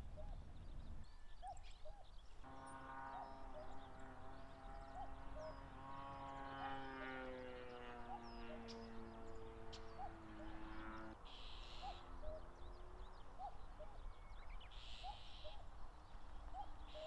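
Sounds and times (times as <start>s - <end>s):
faint bird calls: 0.0s - 17.0s
distant engine-like drone: 2.3s - 17.0s.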